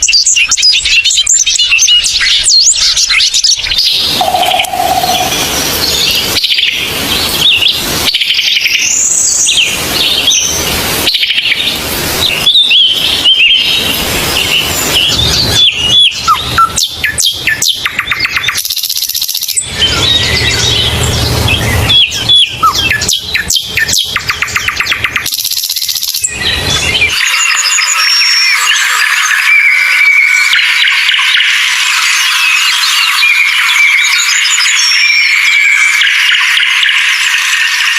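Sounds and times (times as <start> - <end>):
songbirds singing and chirping: 0.0 - 37.9.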